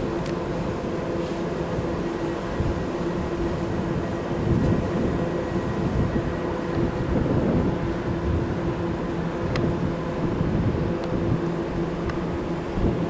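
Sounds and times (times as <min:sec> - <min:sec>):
steady mechanical hum: 0:00.0 - 0:13.0
wind rumbling on microphone: 0:00.0 - 0:13.0.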